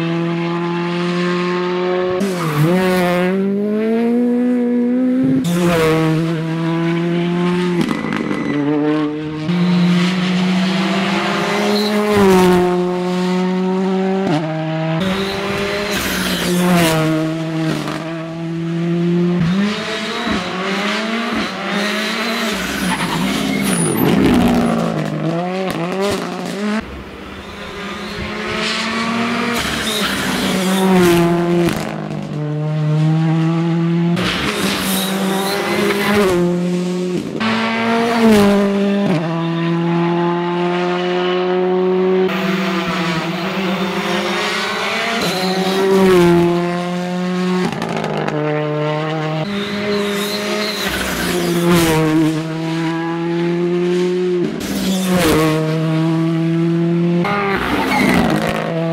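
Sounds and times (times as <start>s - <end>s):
rally car engines revving: 0.0s - 58.9s.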